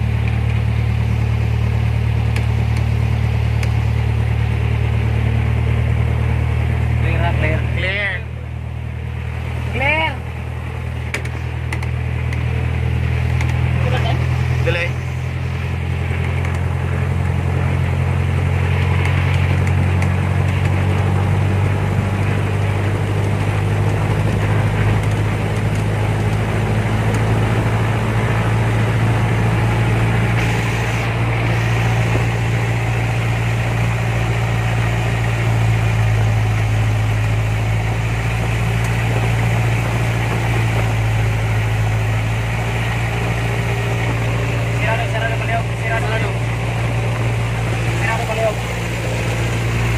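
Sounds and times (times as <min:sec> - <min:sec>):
propeller plane engine running: 0:00.0 - 0:49.9.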